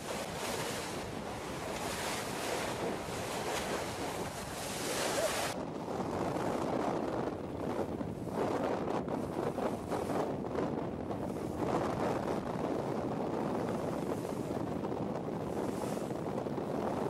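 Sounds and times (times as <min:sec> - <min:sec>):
sea water rushing past hull: 0:00.0 - 0:17.0
wind buffeting microphone: 0:00.0 - 0:17.0.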